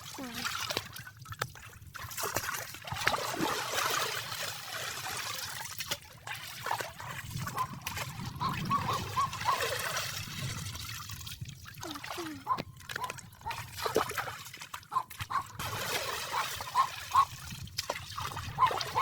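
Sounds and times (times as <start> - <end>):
shallow water sloshing: 0.0 - 19.0.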